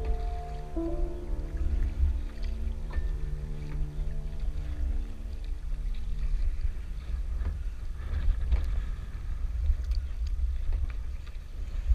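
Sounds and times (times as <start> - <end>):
paddle strokes splashing: 0.0 - 11.9
wind rumbling on microphone: 0.0 - 11.9.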